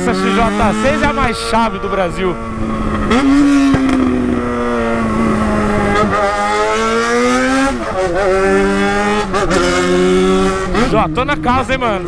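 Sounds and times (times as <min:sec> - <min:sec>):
motorcycle engine loud exhaust: 0:00.0 - 0:12.0.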